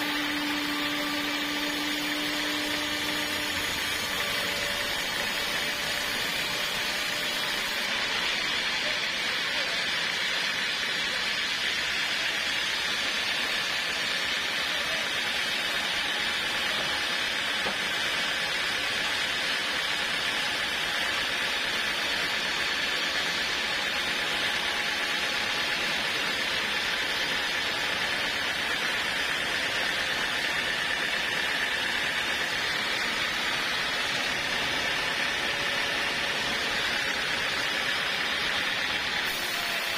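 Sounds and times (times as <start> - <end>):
sawmill running with whine: 0.0 - 39.9.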